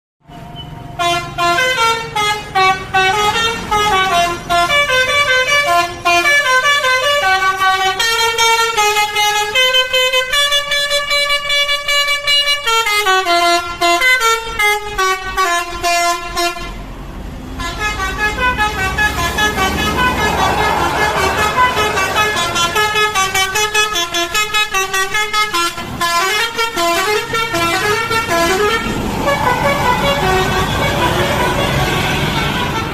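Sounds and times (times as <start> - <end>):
bus engine running: 0.3 - 10.0, 13.0 - 32.9
musical air horn melody: 1.0 - 16.8, 17.6 - 32.9.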